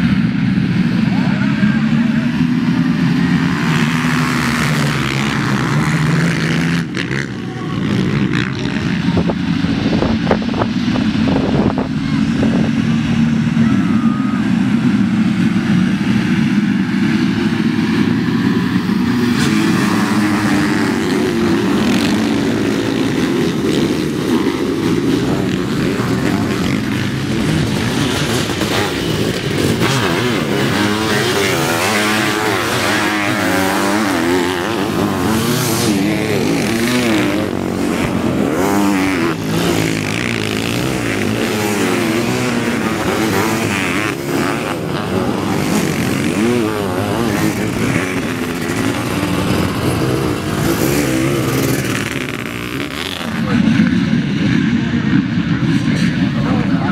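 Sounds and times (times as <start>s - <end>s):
motorcycle engines at full throttle: 0.0s - 56.9s.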